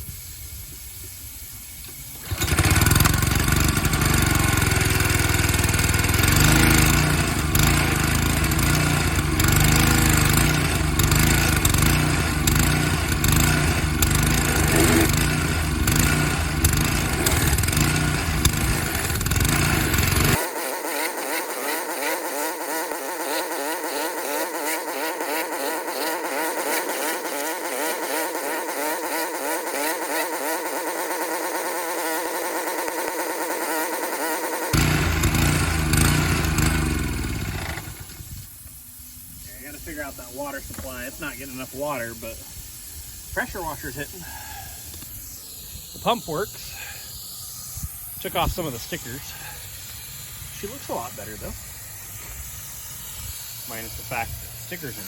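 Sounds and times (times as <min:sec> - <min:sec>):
pressure washer petrol engine running: 0:00.0 - 0:55.0.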